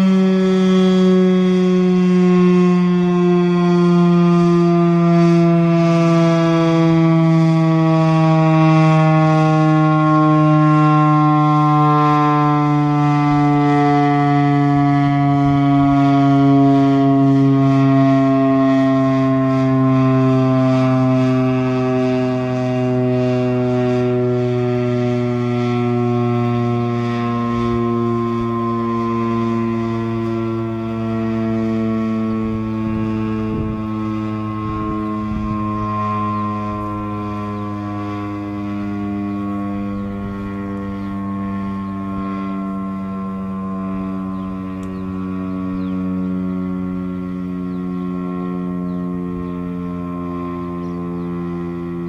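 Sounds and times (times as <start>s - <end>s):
warning siren winding down: 0.0s - 52.0s.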